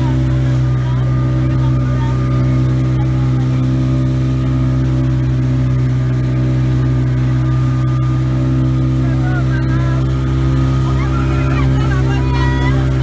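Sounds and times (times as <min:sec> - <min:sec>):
motorboat engine running: 0:00.0 - 0:13.0
water rushing along hull: 0:00.0 - 0:13.0.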